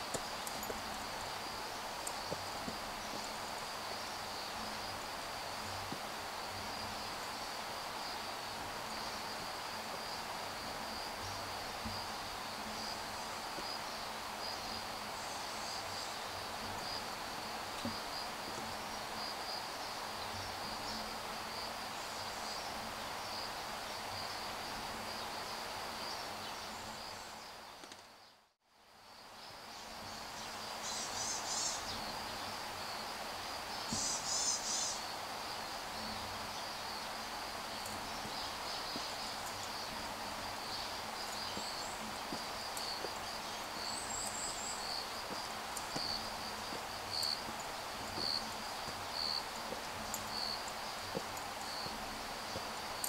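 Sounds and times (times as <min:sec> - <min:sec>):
insects buzzing: 0:00.0 - 0:28.3, 0:28.9 - 0:53.0
soft background hiss: 0:00.0 - 0:53.0.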